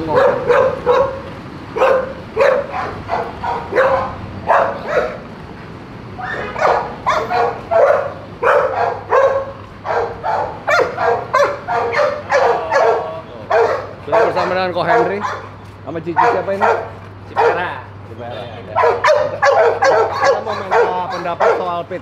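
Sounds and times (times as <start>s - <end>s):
dogs barking: 0.0s - 5.4s, 6.1s - 18.0s, 18.6s - 22.0s.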